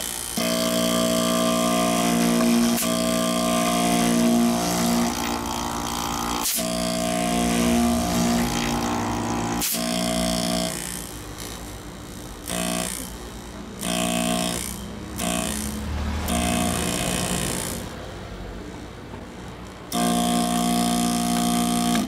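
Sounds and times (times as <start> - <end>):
compressor motor hum: 0.0 - 22.0.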